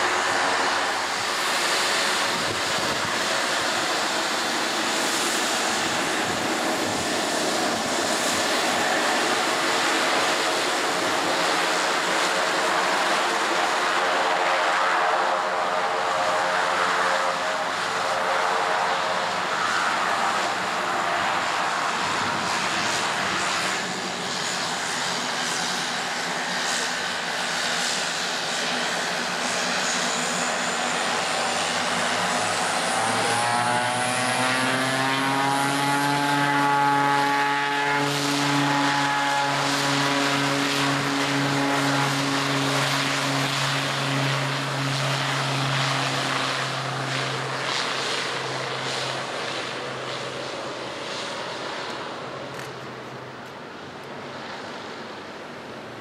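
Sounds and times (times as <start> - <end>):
turboprop engines running: 0.0 - 56.0.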